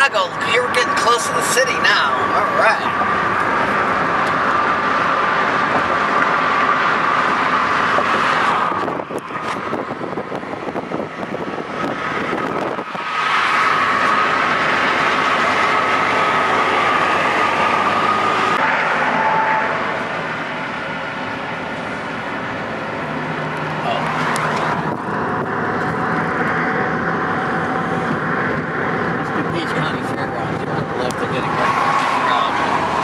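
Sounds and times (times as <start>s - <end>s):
road and wind noise in car: 0.0s - 33.0s.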